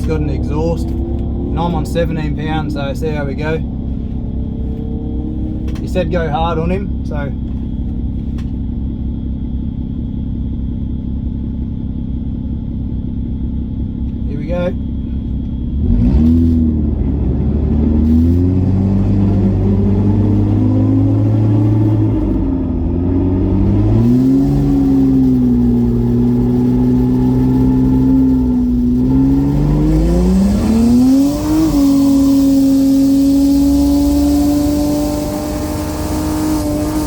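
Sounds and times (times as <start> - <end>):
turbo car engine accelerating hard: 0.0 - 8.5, 13.3 - 37.0.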